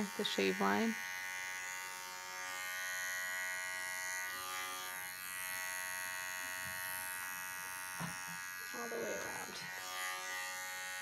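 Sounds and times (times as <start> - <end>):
electric hair clipper buzzing: 0.0 - 11.0.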